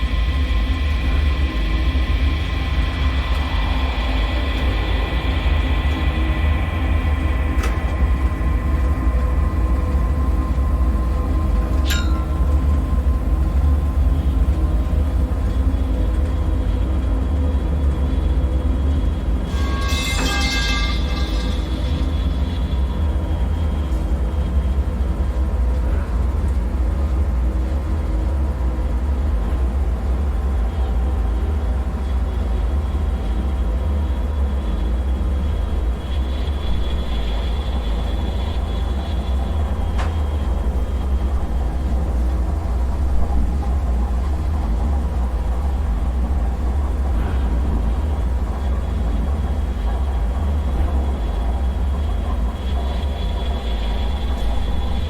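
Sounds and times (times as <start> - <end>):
faint sustained tones: 0.0 - 24.7, 33.1 - 55.0
thin high whine: 0.0 - 24.8, 33.2 - 55.0
deep rumbling drone: 0.0 - 55.0.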